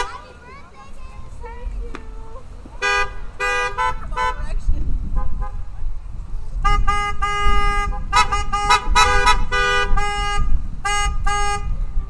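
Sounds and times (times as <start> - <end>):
car horns honking: 0.0 - 12.0.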